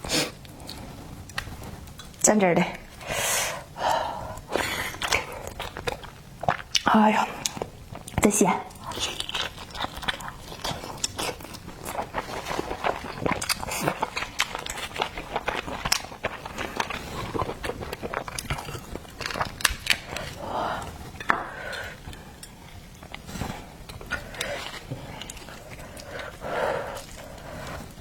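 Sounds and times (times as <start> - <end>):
person chewing wetly: 4.3 - 28.0.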